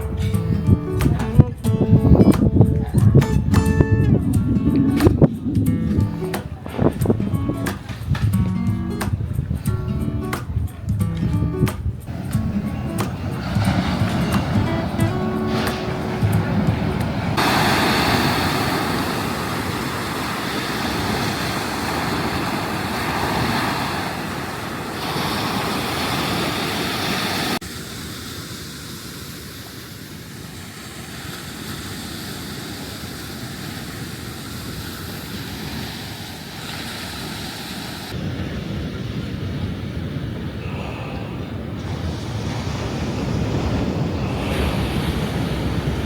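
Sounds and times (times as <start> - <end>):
wind on microphone: 0.0 - 27.6, 32.1 - 46.0
ocean surf washing on beach: 0.0 - 46.0.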